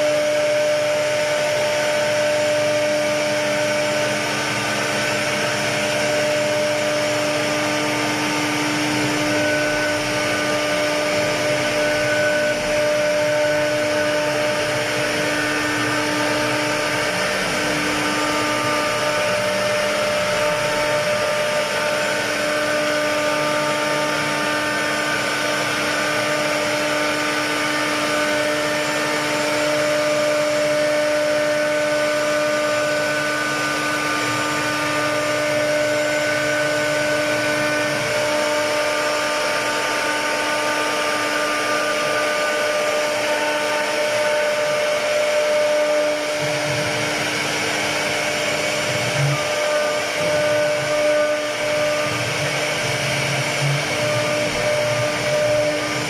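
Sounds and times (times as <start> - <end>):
router spindle whining: 0.0 - 56.0.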